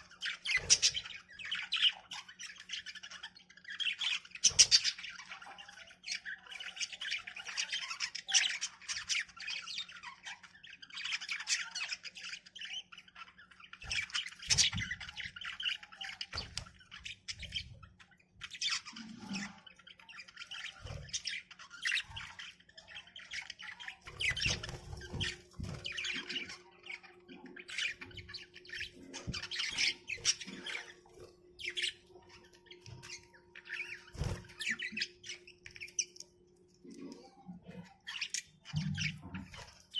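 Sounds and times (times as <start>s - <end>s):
budgies chattering and squawking: 0.0s - 39.9s.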